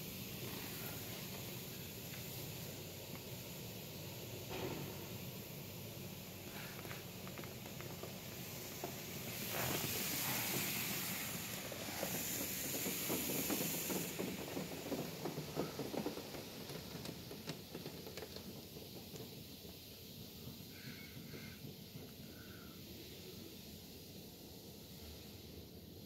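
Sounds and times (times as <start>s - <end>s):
water jets hissing on car: 0.0s - 26.0s.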